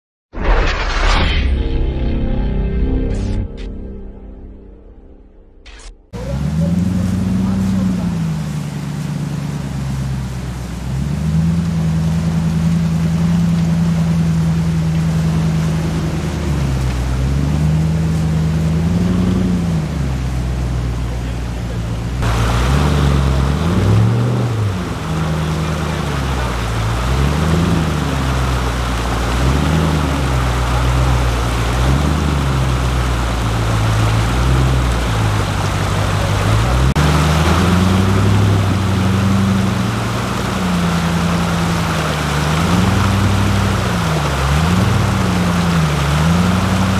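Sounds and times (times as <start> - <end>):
engine revving under load: 6.1 - 46.9
rushing water: 6.1 - 46.9.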